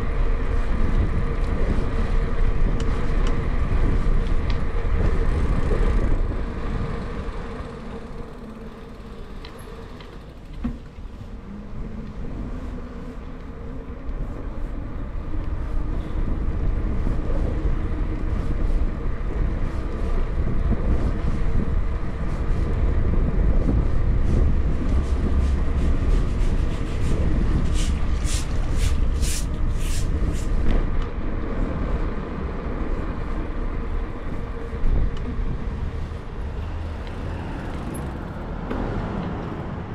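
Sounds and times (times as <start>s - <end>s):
low street rumble: 0.0s - 39.9s
passing traffic: 0.0s - 39.9s.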